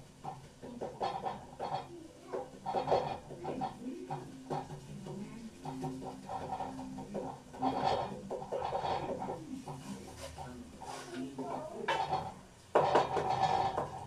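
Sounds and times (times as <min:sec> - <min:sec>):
wooden spoon scraping steel pot: 0:00.0 - 0:14.0.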